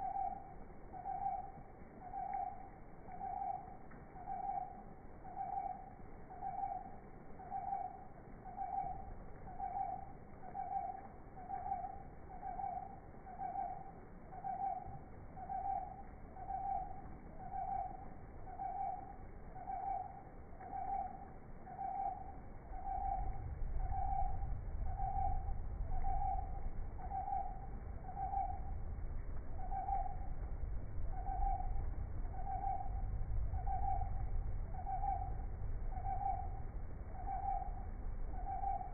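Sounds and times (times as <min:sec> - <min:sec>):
low rumble: 0:00.0 - 0:38.9.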